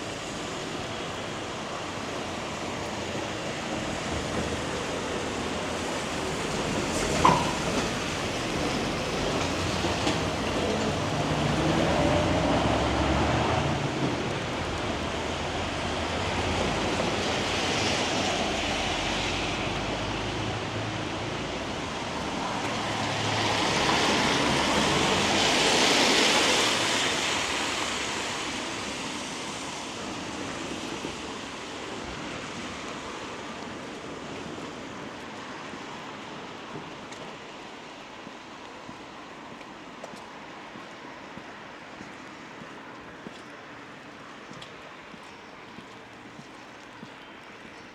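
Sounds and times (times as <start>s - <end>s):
tyre hiss on wet road: 0.0s - 47.9s.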